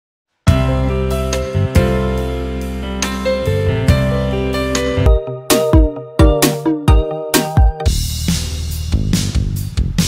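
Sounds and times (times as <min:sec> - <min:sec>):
instrumental intro music: 0:00.4 - 0:10.0.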